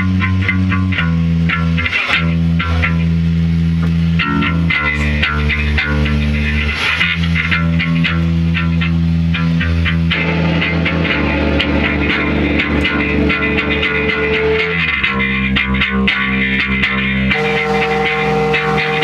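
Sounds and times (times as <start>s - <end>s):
bass guitar: 0.0s - 19.0s
distorted electric guitar: 0.0s - 19.0s.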